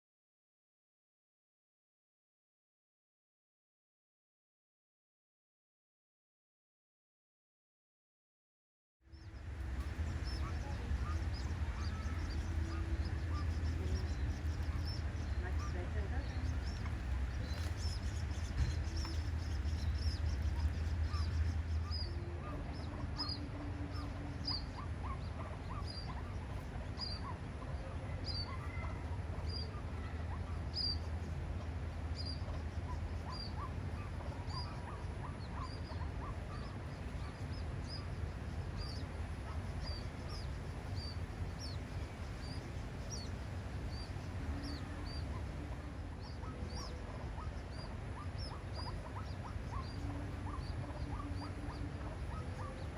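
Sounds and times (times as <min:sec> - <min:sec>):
fainter lower bird calls: 0:09.1 - 0:52.9
steady low rumble: 0:09.1 - 0:52.9.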